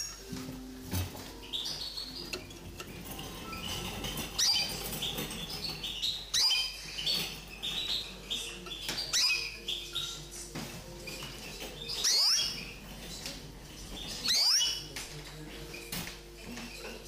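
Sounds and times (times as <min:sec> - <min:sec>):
bird twittering song: 0:00.0 - 0:17.0.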